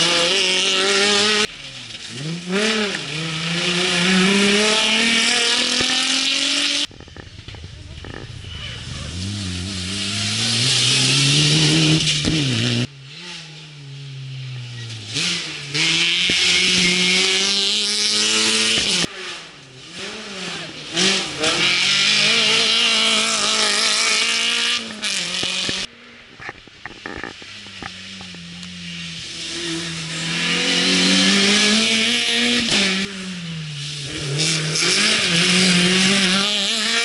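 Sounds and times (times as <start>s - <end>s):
engines revving hard: 0.0s - 6.9s, 7.9s - 25.9s, 27.8s - 37.0s
rally cars passing at speed: 0.0s - 26.8s, 27.4s - 37.0s.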